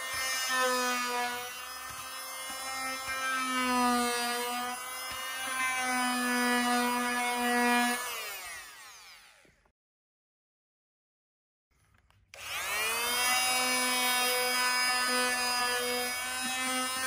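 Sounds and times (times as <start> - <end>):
detail sander sanding wood: 0.0 - 9.1, 12.4 - 17.0.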